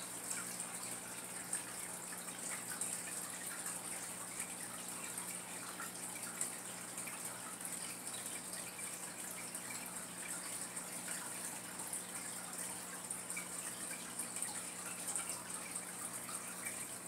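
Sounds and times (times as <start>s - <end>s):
aquarium water trickling: 0.0s - 17.0s.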